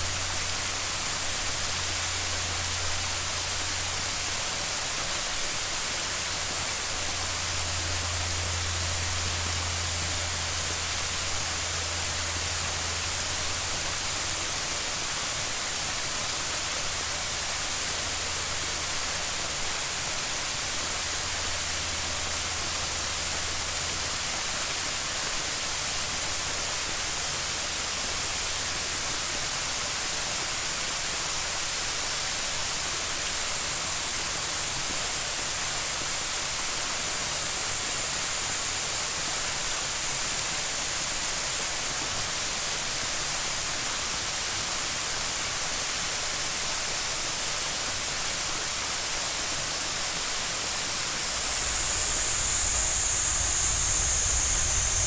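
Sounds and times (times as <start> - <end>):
waterfall rushing water: 0.0 - 55.0.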